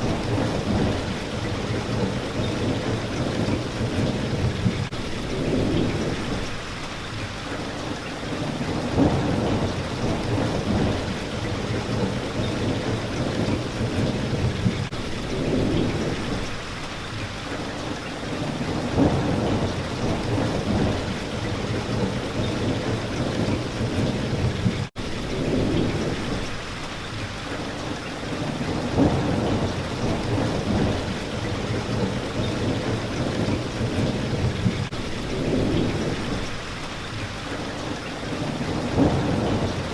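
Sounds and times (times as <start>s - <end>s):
thunder rumbling: 0.0s - 6.8s, 8.2s - 16.6s, 18.3s - 27.0s, 28.2s - 37.2s, 38.2s - 39.9s
rain pattering on a window: 0.0s - 39.9s.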